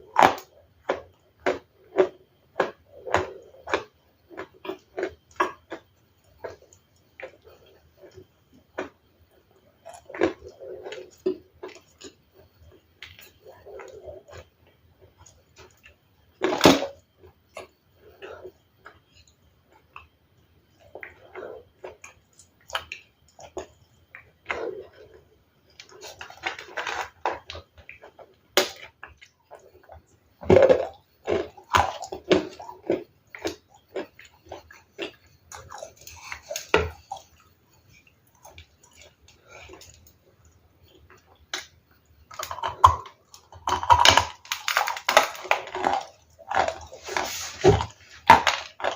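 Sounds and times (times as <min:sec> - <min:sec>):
ice crunching when chewed: 0:00.0 - 0:09.0, 0:09.8 - 0:14.5, 0:20.7 - 0:41.7, 0:42.3 - 0:48.9.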